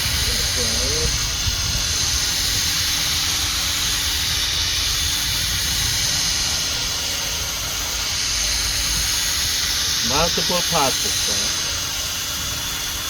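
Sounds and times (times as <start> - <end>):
sanding disc hissing on plastic: 0.0 - 13.0.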